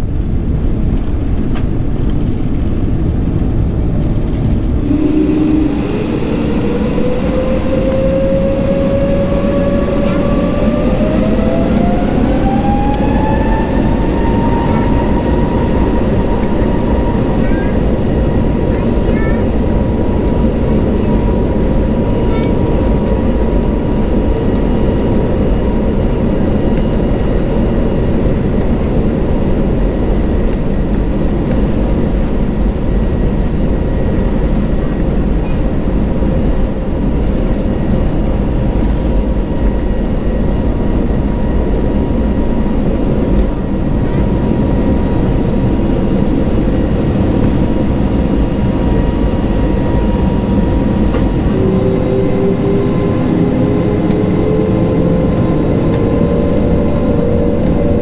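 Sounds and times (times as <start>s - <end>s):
high engine whine: 0.0s - 58.0s
jet engines roaring: 0.0s - 58.0s.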